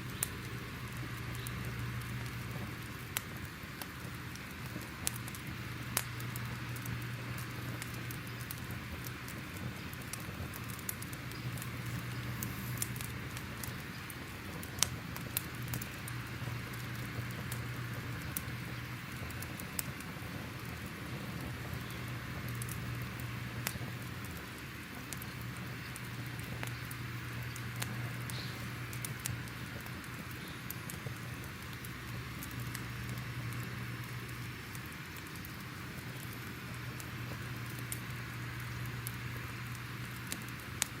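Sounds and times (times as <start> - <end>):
fire crackling and popping: 0.0 - 41.0
low steady hum: 0.0 - 41.0.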